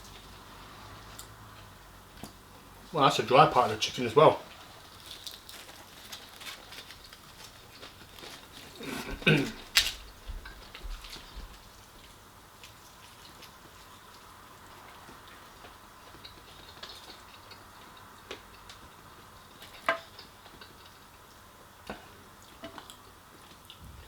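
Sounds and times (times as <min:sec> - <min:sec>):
faint steady hiss: 0:00.0 - 0:24.0
chewing crunches: 0:04.5 - 0:23.8.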